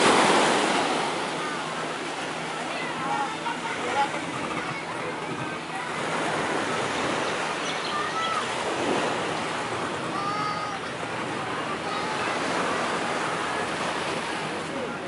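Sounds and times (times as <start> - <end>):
sea surf on a beach: 0.0 - 15.0.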